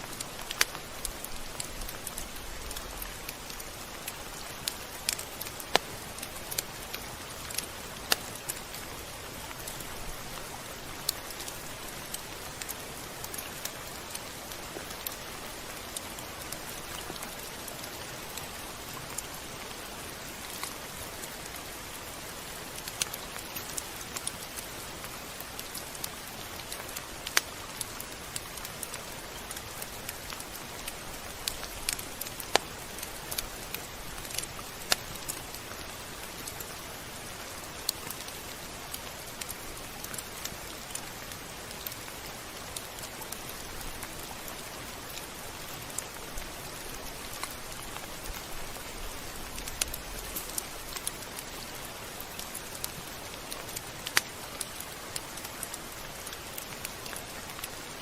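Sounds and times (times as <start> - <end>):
raindrops ticking on surface: 0.0 - 58.0
steady rain hiss: 0.0 - 58.0.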